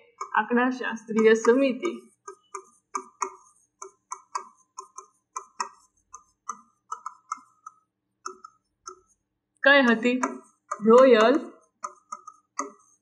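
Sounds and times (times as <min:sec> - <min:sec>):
stylus tapping and scratching: 0:00.0 - 0:13.0.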